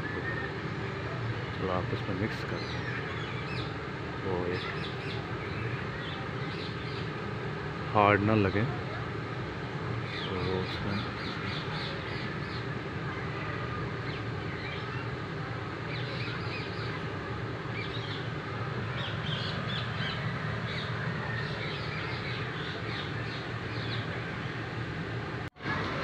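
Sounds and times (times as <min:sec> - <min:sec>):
birds chirping: 0:00.0 - 0:25.8.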